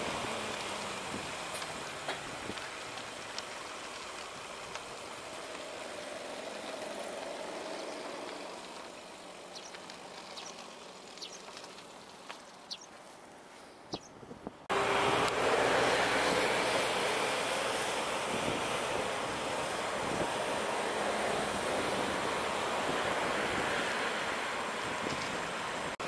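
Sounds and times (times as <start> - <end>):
trucks and cars passing: 0.0 - 26.0.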